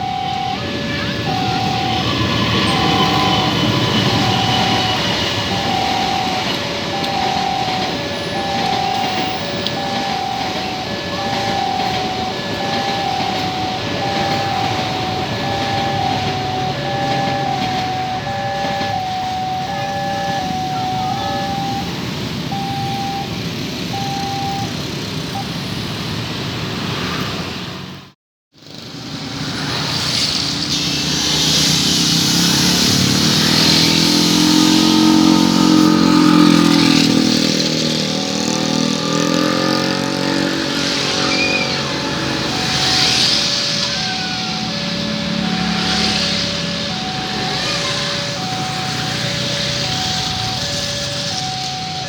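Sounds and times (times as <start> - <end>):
train wheel noise: 0.0 - 25.3, 28.7 - 52.0
level-crossing alarm beeping: 0.0 - 25.7, 32.2 - 52.0
train diesel engine drone: 0.0 - 27.0, 30.7 - 52.0
traffic noise: 0.0 - 52.0.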